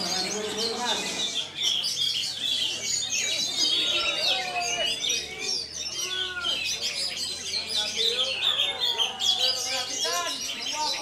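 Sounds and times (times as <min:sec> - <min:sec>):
birds singing chirps and whistles: 0:00.0 - 0:11.0.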